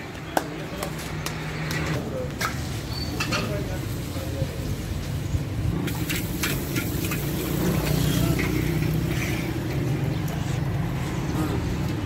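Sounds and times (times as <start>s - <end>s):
faint voices: 0.0s - 12.0s
traffic rumble: 0.0s - 12.0s.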